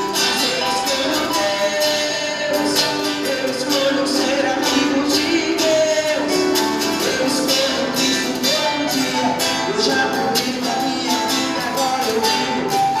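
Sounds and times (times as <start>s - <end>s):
live band with guitar: 0.0s - 13.0s
person singing: 0.0s - 13.0s.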